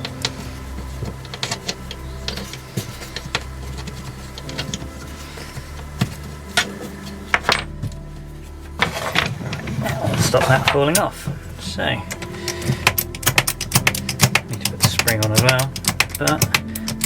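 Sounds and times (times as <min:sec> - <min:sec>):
metal parts clicking and knocking: 0:00.0 - 0:08.0, 0:08.8 - 0:11.4, 0:12.0 - 0:17.0
steady low hum: 0:00.0 - 0:17.0.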